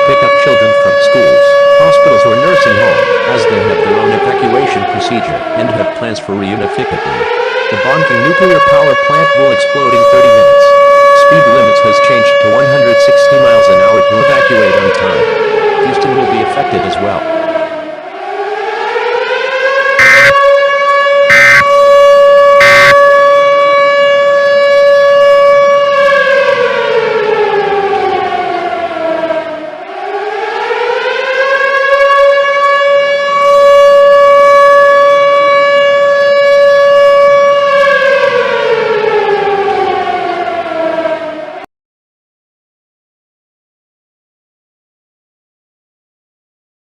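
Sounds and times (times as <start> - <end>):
civil defense siren wailing: 0.0 - 41.7.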